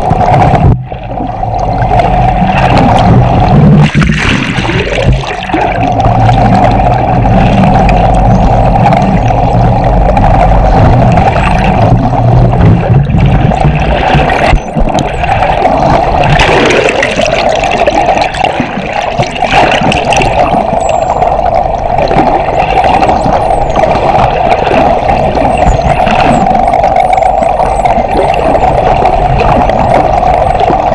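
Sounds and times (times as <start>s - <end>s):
water rushing underwater: 0.0s - 30.9s.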